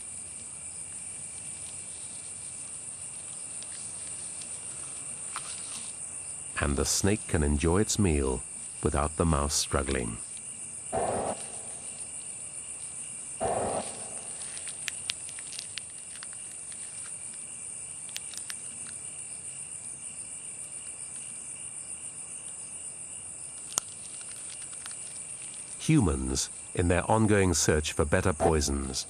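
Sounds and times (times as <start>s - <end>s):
crickets trilling: 0.0s - 29.0s.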